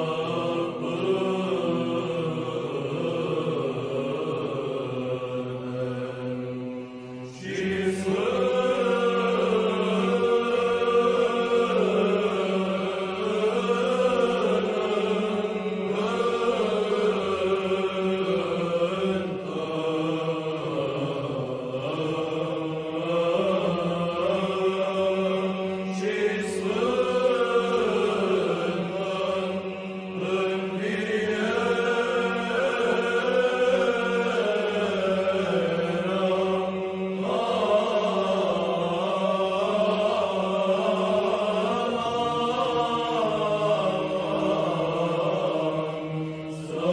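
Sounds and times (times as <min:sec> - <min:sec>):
voices chanting a melody: 0:00.0 - 0:46.9.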